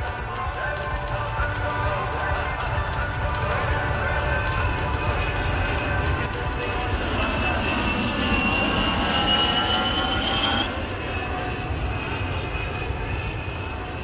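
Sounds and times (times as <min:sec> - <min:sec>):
jet engine rumble and whine: 0:00.0 - 0:14.0.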